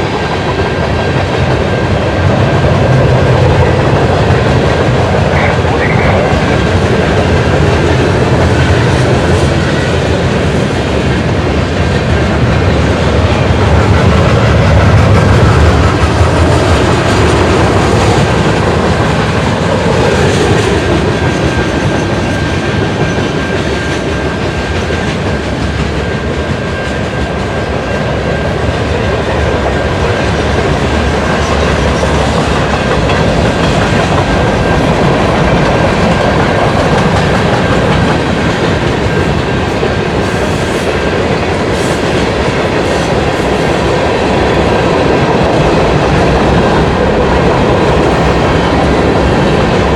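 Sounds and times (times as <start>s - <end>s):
freight train rumbling: 0.0s - 49.9s.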